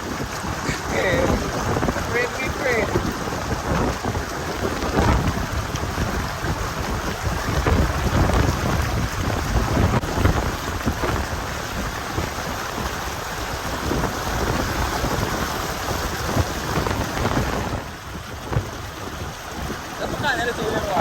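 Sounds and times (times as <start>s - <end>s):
heavy rain: 0.0s - 21.0s
rumbling wind gusts: 0.0s - 21.0s.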